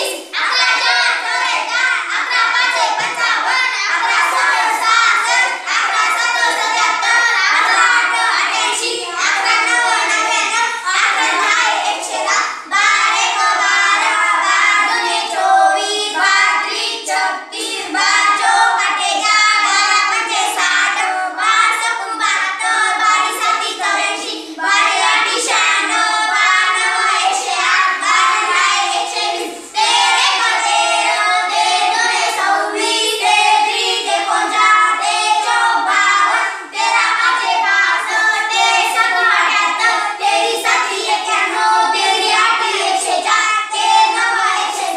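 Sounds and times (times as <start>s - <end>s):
children chanting in unison: 0.0s - 44.9s.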